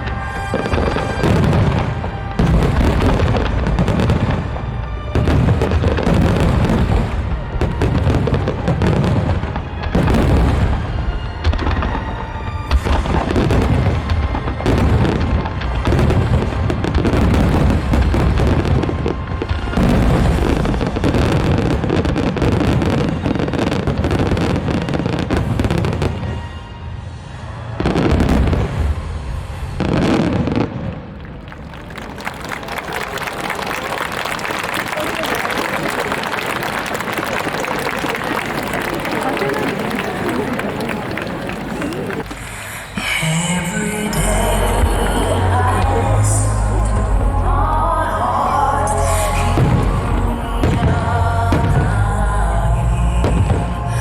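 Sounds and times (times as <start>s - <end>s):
music playing: 0.0s - 28.6s, 38.0s - 54.0s
fireworks booming: 0.0s - 54.0s.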